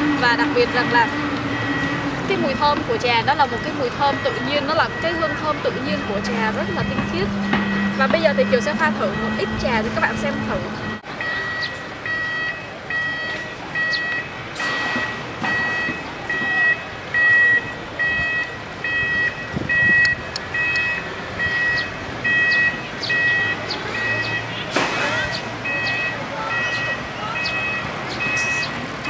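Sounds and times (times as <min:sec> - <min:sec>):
electronic alarm beeping: 0:00.3 - 0:28.8.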